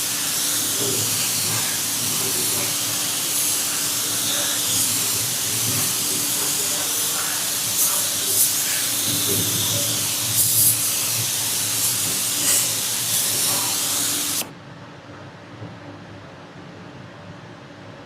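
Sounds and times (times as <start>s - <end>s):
high-pitched spraying hiss: 0.0s - 14.5s.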